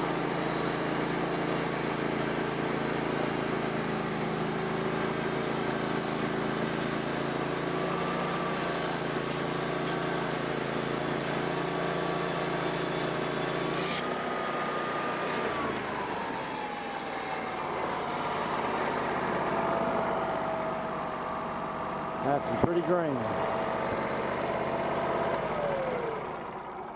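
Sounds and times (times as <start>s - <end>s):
saw whine falling in pitch: 0.0s - 26.9s
sawmill engine running: 0.0s - 26.9s.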